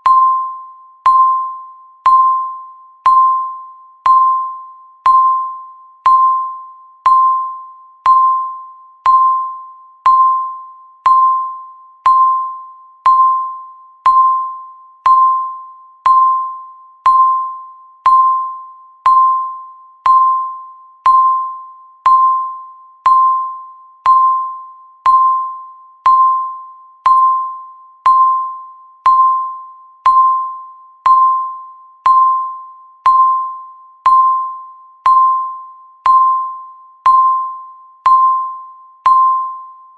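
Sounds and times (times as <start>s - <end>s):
timer ticking with ringing tone: 0.0s - 39.9s.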